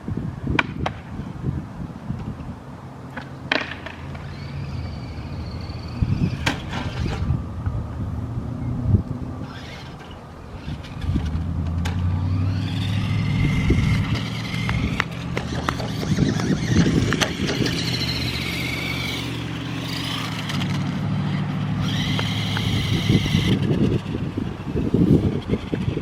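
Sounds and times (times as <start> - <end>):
remote-control truck motor whine: 4.1 - 7.8, 8.7 - 26.0.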